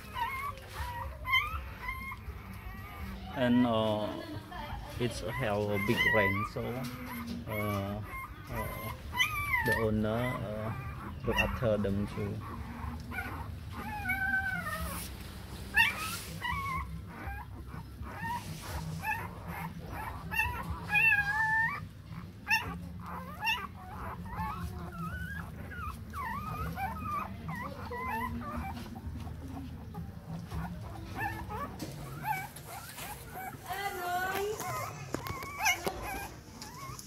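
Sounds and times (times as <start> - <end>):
puppies whimpering and whining: 0.0 - 37.0.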